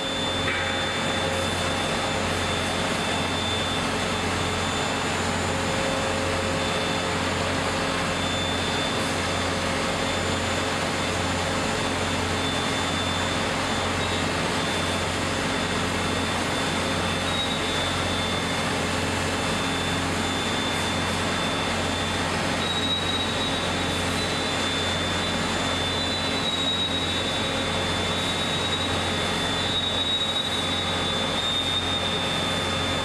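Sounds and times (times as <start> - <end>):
spring-coiling machine humming: 0.0 - 33.0.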